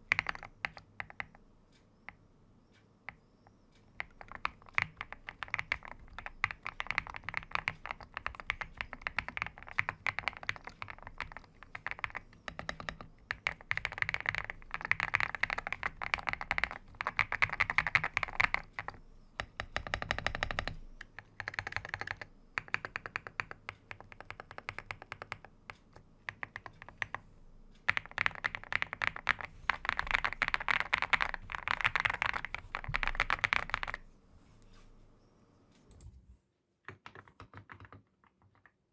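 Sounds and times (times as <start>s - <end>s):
mechanical keyboard typing: 0.0s - 1.4s, 4.0s - 34.0s, 36.9s - 38.8s.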